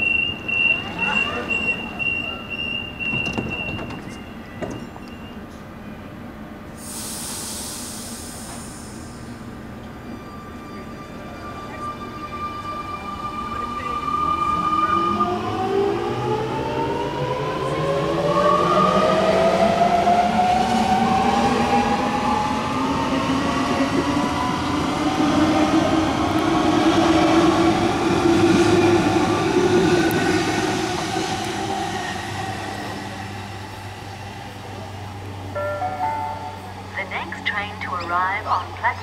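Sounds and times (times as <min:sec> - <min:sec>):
wheels rumbling on rail: 0:00.0 - 0:39.0.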